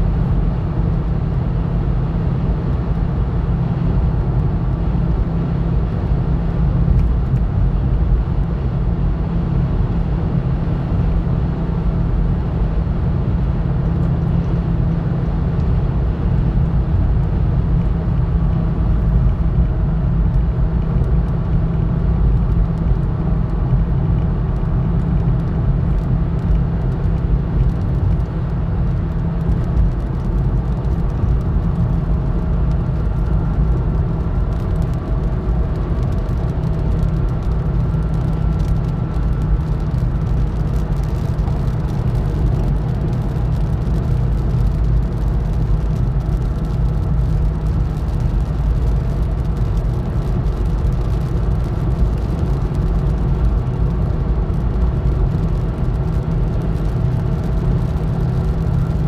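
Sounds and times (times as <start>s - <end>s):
tyre and engine rumble in car: 0.0s - 59.0s.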